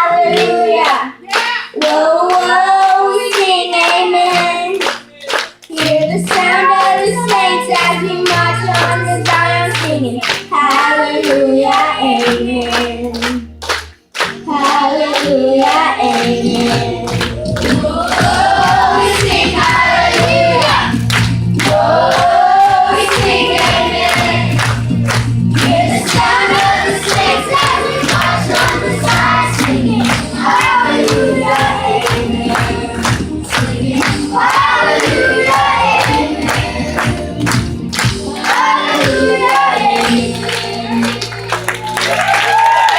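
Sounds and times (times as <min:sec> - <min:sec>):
children's choir singing: 0:00.0 - 0:04.9, 0:05.7 - 0:13.1, 0:14.5 - 0:24.8, 0:25.6 - 0:41.9
backing track with steady beat: 0:03.4 - 0:42.0.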